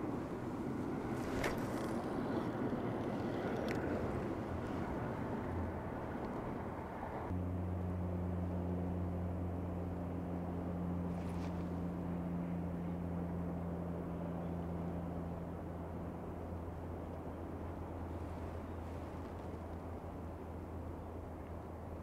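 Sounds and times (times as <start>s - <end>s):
low mechanical hum: 0.0s - 22.0s
low outdoor rumble: 0.0s - 22.0s.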